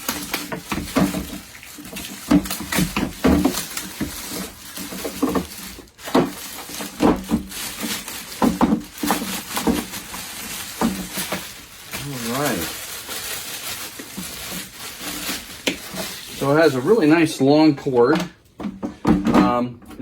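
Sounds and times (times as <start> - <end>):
plastic packaging rustling: 0.0 - 17.6.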